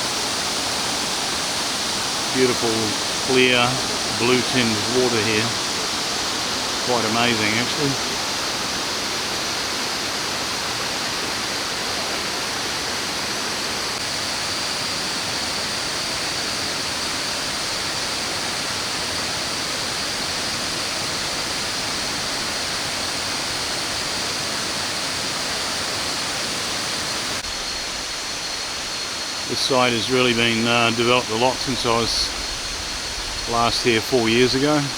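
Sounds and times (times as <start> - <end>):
waterfall rushing into pools: 0.0 - 34.9.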